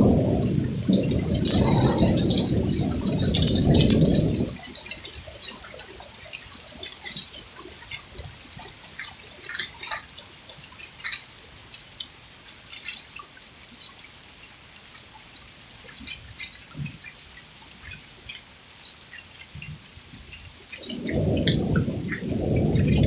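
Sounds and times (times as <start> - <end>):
water dripping: 0.0 - 23.0.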